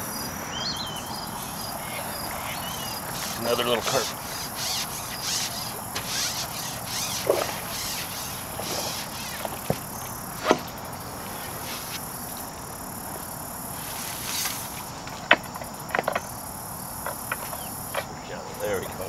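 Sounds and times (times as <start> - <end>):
insect chorus hiss: 0.0 - 19.0
pulsing insect chirps: 0.0 - 19.0.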